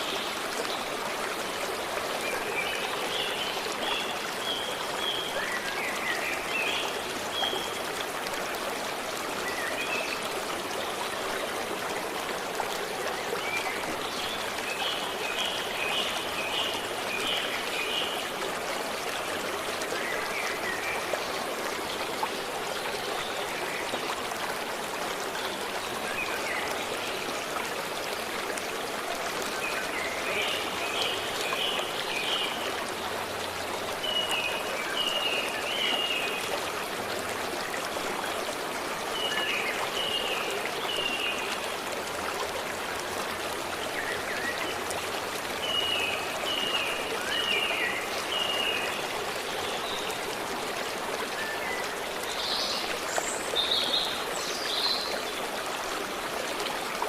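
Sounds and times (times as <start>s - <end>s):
forest stream running: 0.0s - 57.0s.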